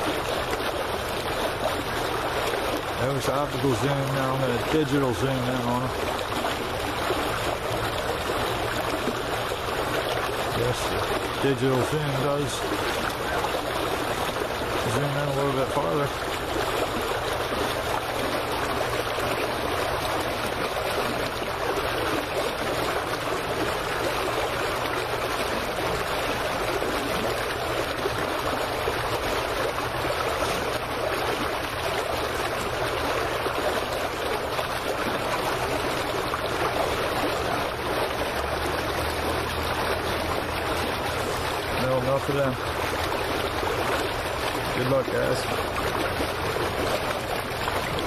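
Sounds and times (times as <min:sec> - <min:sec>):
water lapping against dock: 0:00.0 - 0:48.0.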